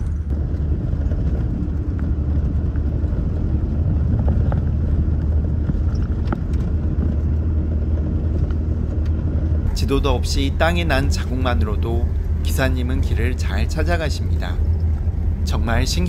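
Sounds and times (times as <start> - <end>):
van engine and road rumble: 0.0 - 16.0.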